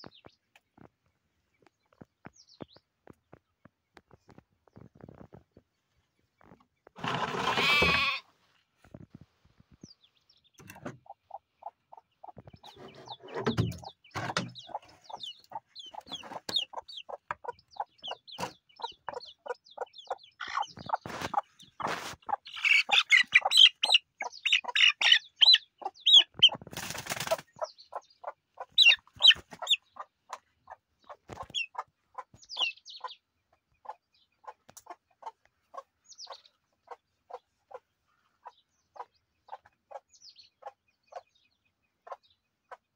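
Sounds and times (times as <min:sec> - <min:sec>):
chicks peeping and clucking: 0:00.0 - 0:07.9, 0:08.8 - 0:42.9.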